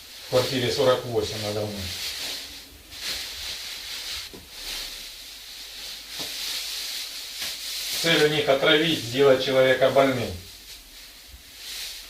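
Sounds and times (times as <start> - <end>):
room tone hiss: 0.0 - 12.0.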